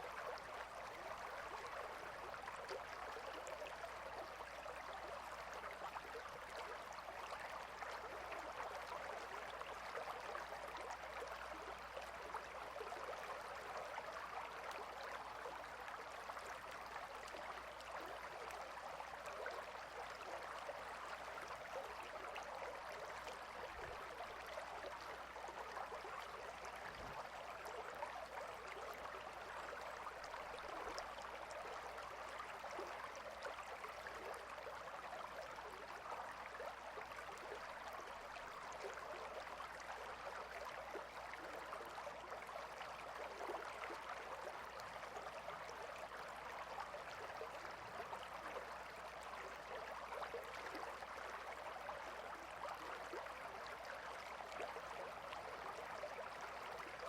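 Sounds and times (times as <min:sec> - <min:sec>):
river flowing and bubbling: 0:00.0 - 0:57.0.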